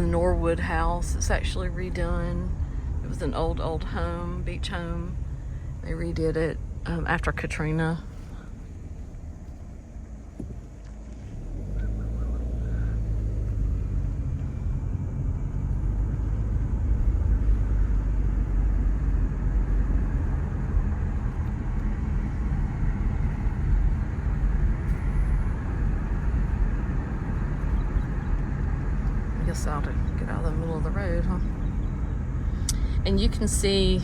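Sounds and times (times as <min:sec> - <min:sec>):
car road noise rumble: 0:00.0 - 0:34.0.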